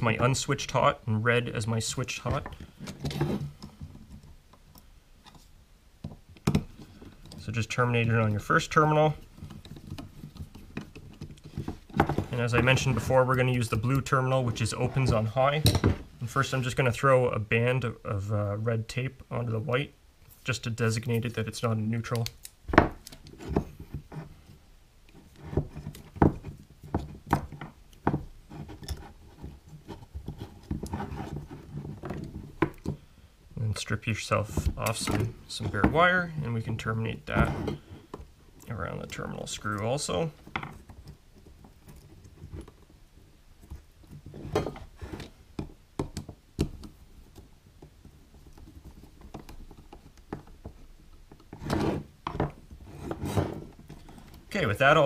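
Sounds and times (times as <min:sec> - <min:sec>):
handling rustles and knocks: 0:00.0 - 0:17.2, 0:19.7 - 0:55.0.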